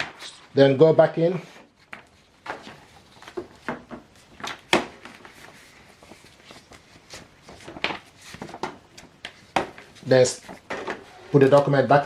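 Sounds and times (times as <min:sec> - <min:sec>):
paper rustling: 0:01.2 - 0:11.8.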